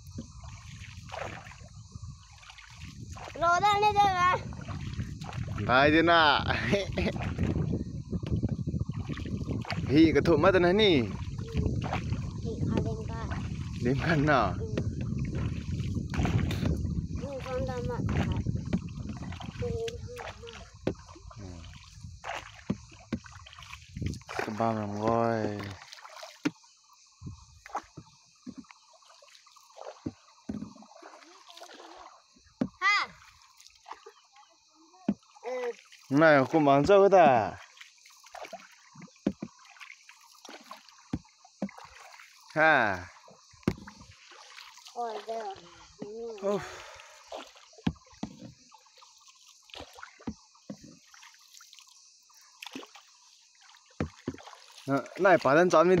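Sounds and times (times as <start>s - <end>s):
paddle splashing water: 0.0s - 56.0s.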